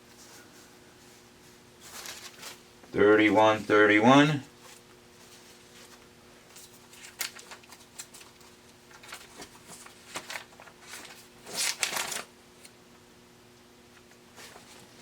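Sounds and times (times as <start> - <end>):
paper pages rustling: 0.1 - 3.7, 4.6 - 12.3, 14.3 - 15.0.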